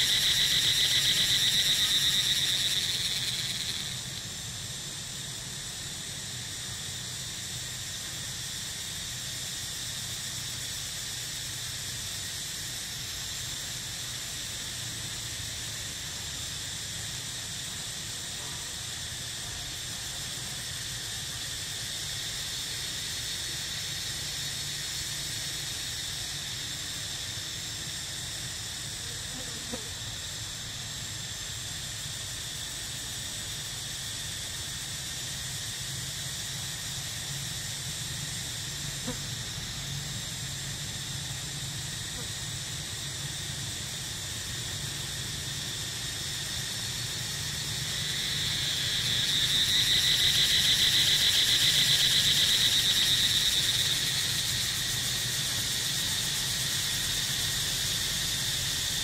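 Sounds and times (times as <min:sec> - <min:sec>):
insects calling: 0:00.0 - 0:59.0.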